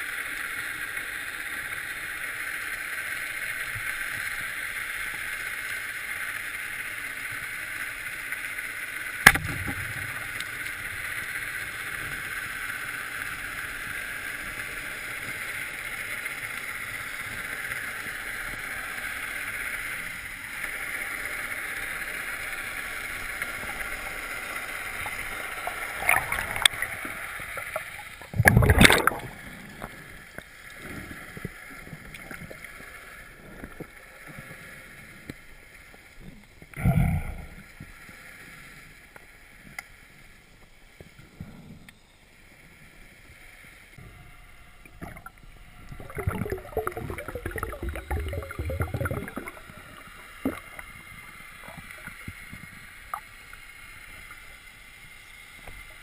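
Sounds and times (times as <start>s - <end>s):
underwater hiss of moving water: 0.0s - 56.0s.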